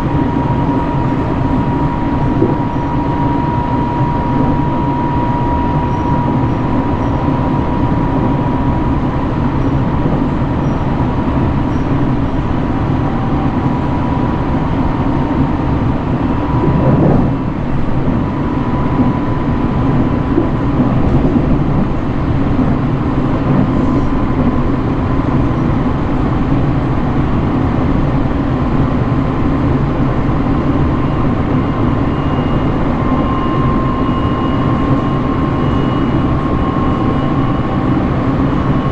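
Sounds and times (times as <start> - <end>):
electric train rumbling: 0.0 - 38.9
faint steady whine: 0.0 - 38.9.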